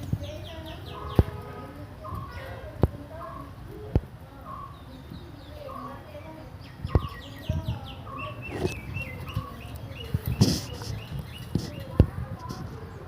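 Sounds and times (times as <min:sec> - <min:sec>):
birds chirping: 0:00.0 - 0:13.0
soft low bird calls: 0:00.0 - 0:13.0.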